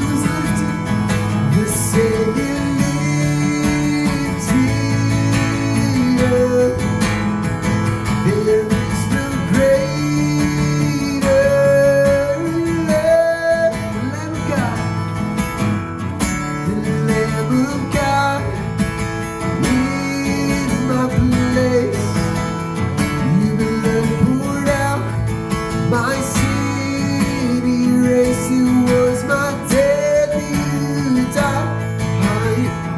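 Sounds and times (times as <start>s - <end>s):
acoustic guitar: 0.0s - 32.9s.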